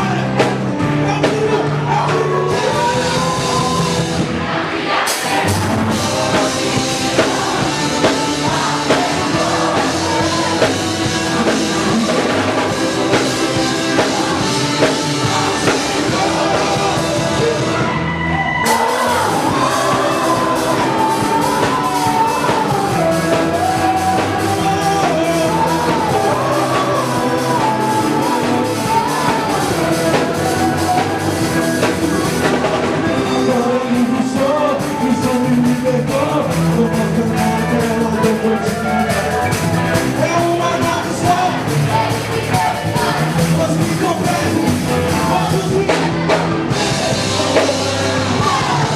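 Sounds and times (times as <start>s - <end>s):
rock band with singing: 0.0s - 48.9s.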